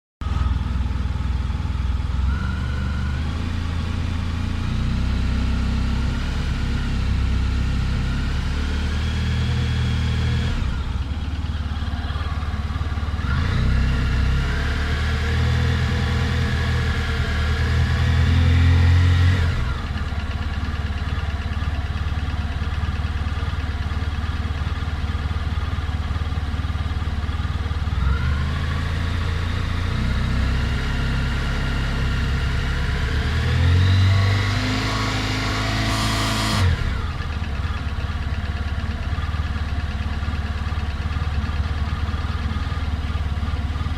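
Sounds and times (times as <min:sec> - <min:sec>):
motorcycle engine idling and revving: 0:00.2 - 0:43.9.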